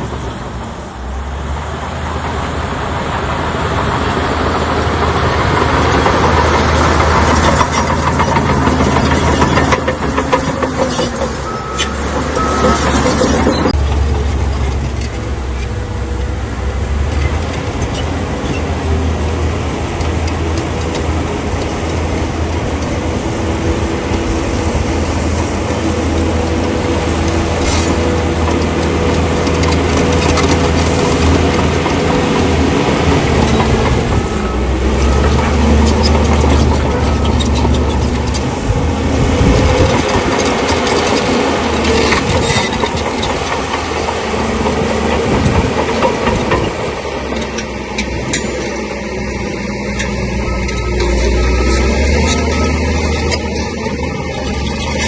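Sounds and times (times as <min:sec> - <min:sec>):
bulldozer diesel engine drone: 0:00.0 - 0:55.0
steel tracks clanking: 0:00.0 - 0:55.0.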